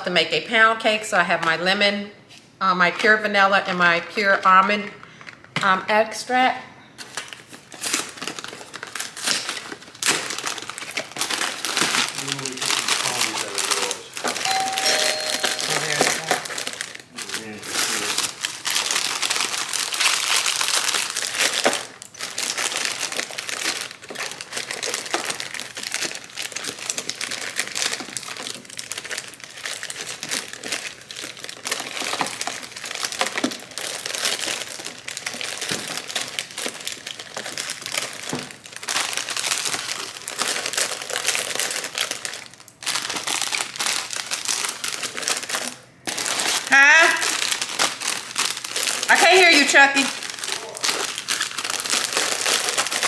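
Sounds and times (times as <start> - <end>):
plastic bags crinkling: 7.0 - 53.0.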